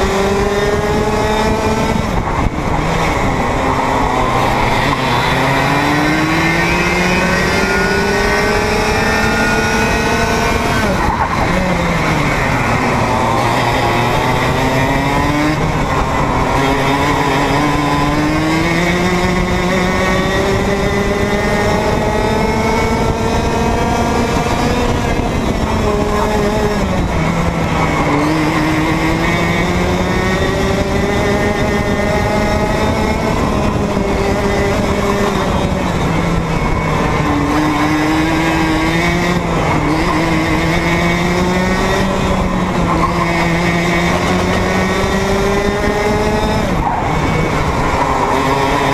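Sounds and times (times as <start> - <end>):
kart engine revving: 0.0 - 48.9.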